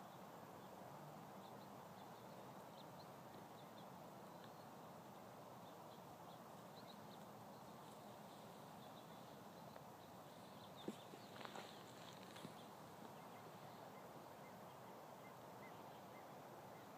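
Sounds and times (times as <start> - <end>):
faint outdoor ambience: 0.0 - 16.9.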